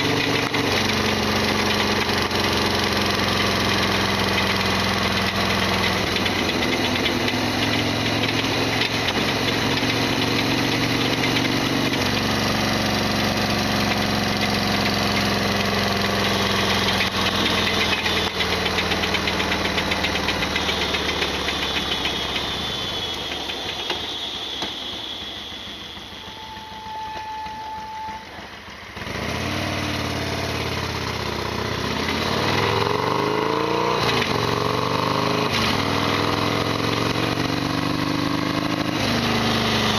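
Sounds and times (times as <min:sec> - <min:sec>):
loud engine rattling: 0:00.0 - 0:39.9
motorcycle engine running: 0:00.0 - 0:39.9.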